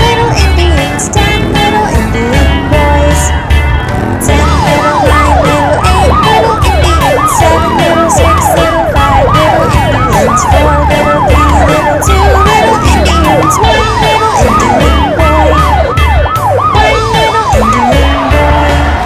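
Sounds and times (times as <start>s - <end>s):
low pulses and ticking: 0.0s - 19.0s
police siren wailing: 0.0s - 19.0s.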